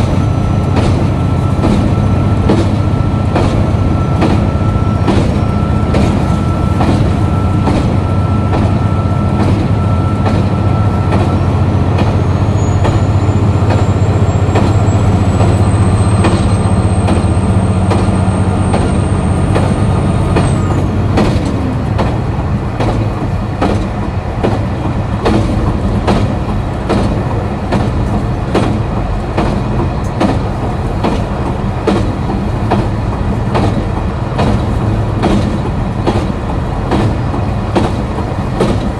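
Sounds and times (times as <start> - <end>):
diesel railcar engine running: 0.0 - 38.9
wheels clicking over rail joints: 0.0 - 38.9.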